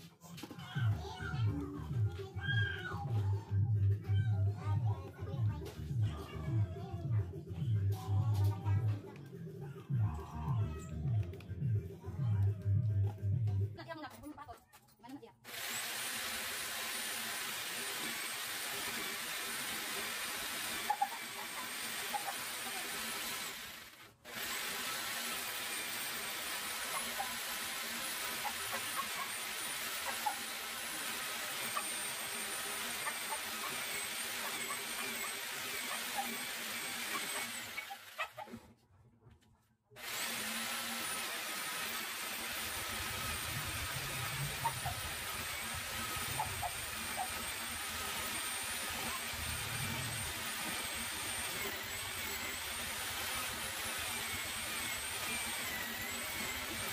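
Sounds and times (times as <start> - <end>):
jigsaw cutting wood: 0.4 - 7.0, 15.4 - 38.7, 40.0 - 56.9.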